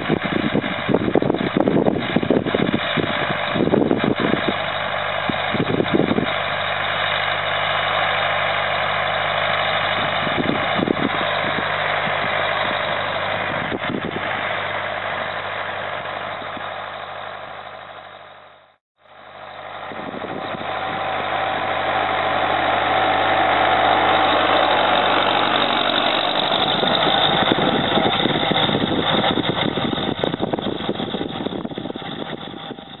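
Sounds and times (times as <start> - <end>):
tractor engine under load: 0.0 - 33.0.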